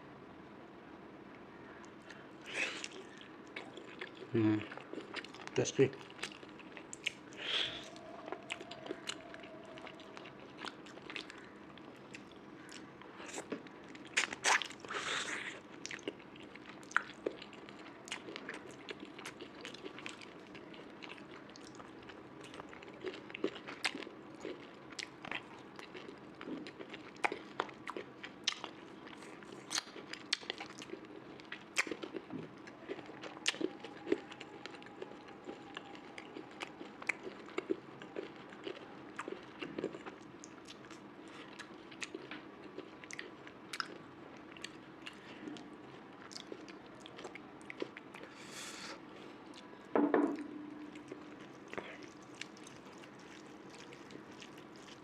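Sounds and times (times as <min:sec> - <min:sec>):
faint steady hum: 0:00.0 - 0:55.0
chewing and lip smacking: 0:01.8 - 0:49.8, 0:50.8 - 0:55.0.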